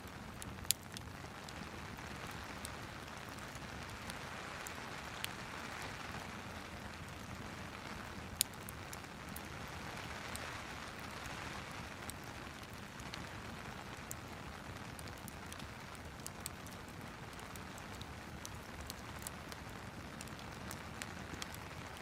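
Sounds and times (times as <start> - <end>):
fireplace crackling and popping: 0.0 - 22.0
steady rain: 0.0 - 22.0.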